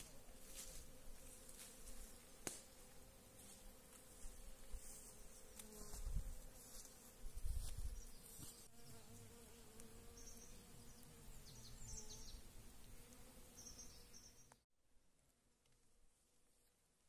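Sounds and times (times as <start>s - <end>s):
flying insect buzzing: 0.0s - 14.6s.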